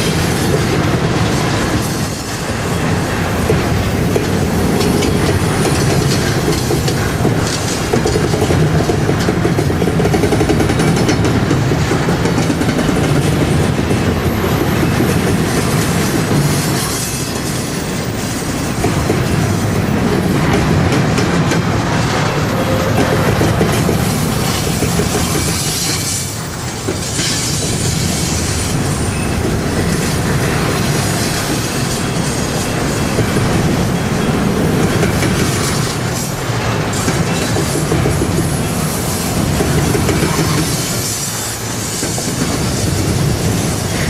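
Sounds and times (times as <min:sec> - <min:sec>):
train wheels clattering on rails: 0:00.0 - 0:44.0.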